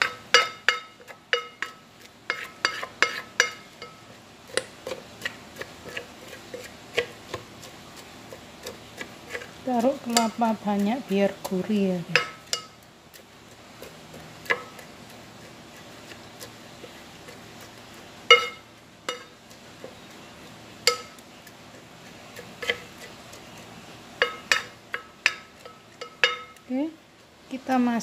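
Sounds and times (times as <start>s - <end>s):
rice paddle scraping pot: 0.0s - 26.7s.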